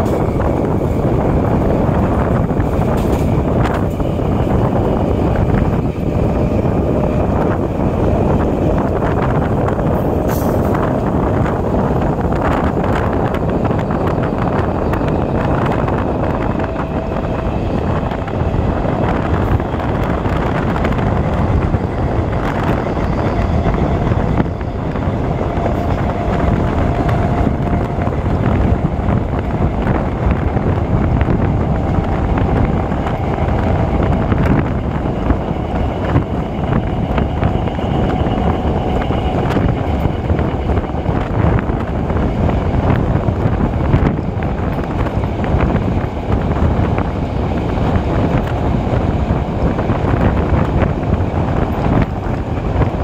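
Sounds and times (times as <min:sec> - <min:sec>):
train running: 0:00.0 - 0:53.0
wind buffeting microphone: 0:00.0 - 0:53.0.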